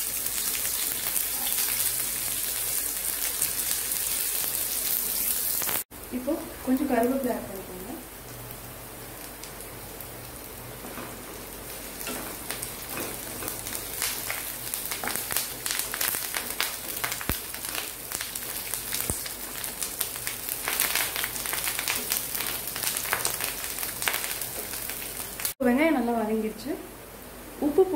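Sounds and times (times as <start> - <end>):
food sizzling in hot oil: 0.0 - 25.6.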